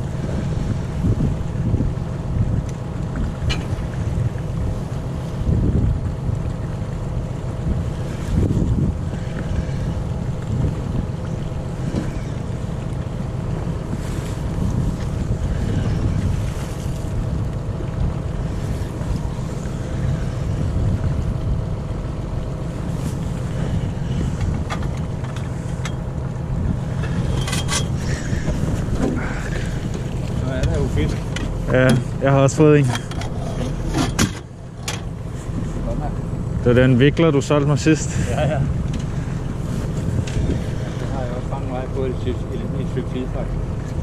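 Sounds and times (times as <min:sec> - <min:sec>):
steady low hum: 0:00.0 - 0:44.0
wind buffeting microphone: 0:00.0 - 0:44.0.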